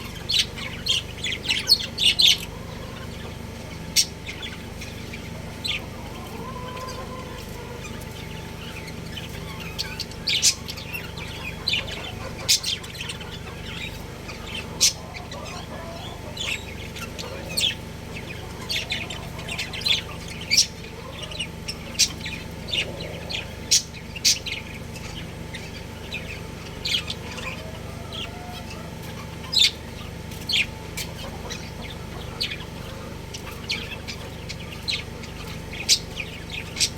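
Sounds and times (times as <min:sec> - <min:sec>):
budgerigars chirping: 0:00.0 - 0:36.9
steady low hum: 0:00.0 - 0:36.9.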